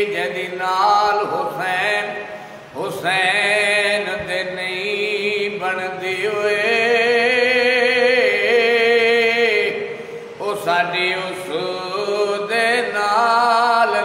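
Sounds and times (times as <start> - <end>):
man chanting unaccompanied: 0.0 - 14.0.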